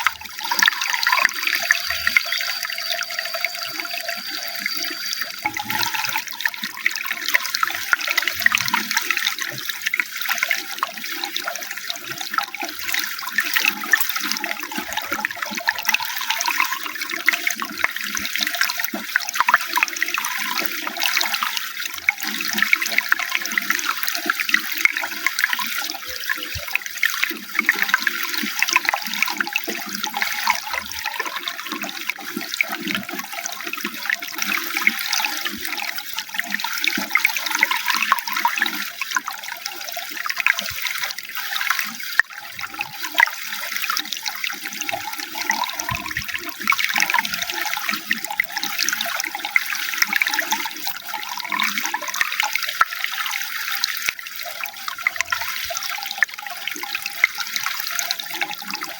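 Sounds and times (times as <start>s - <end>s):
running water splashing: 0.0s - 58.9s.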